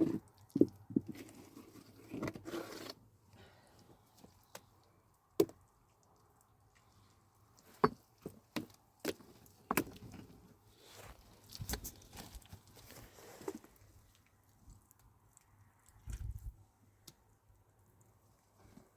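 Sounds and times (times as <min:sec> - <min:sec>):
low background noise: 0:00.0 - 0:18.9.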